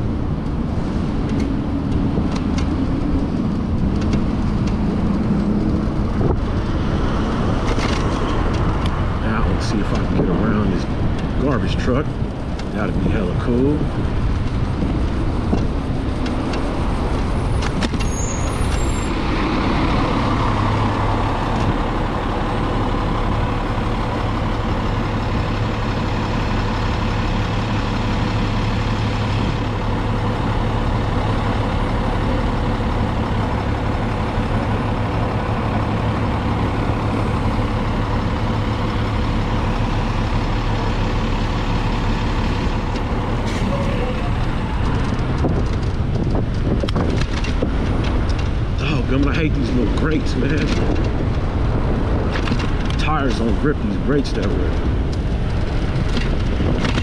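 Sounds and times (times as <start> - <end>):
garbage truck diesel engine: 0.0 - 57.0
street traffic: 0.0 - 57.0
wind noise: 0.0 - 57.0.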